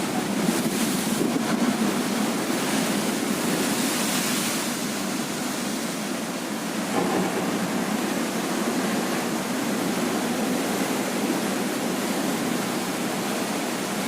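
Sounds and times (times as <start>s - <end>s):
heavy ocean surf breaking: 0.0s - 14.0s.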